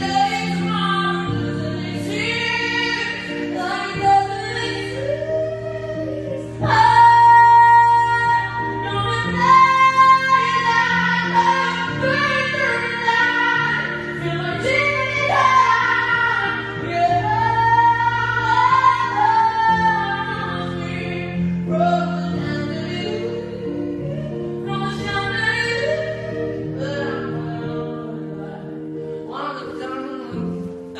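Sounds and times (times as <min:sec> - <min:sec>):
woman singing: 0:00.0 - 0:30.9.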